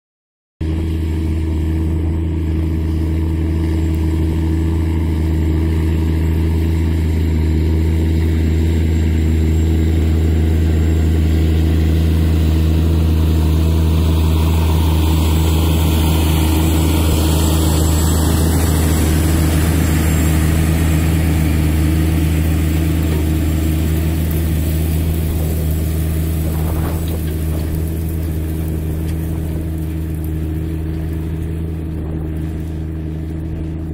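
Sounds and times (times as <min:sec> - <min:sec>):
tractor diesel engine droning: 0:00.6 - 0:33.9.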